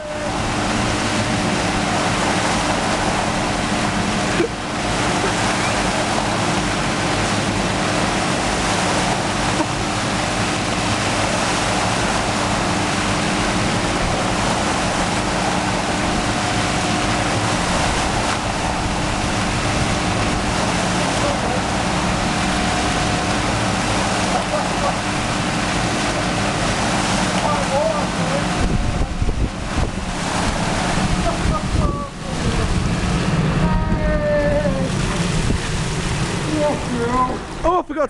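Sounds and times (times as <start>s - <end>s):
water pouring from chute: 0.0s - 37.8s
truck engine running: 0.2s - 38.0s.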